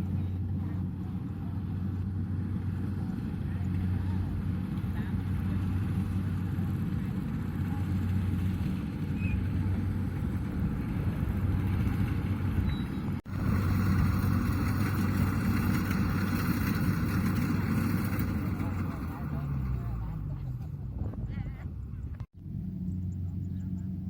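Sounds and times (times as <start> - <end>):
combine harvester diesel engine: 0.0 - 24.0.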